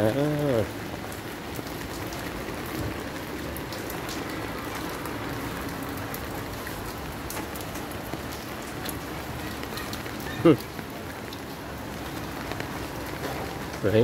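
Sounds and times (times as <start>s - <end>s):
rain on concrete pavement: 0.0s - 14.0s.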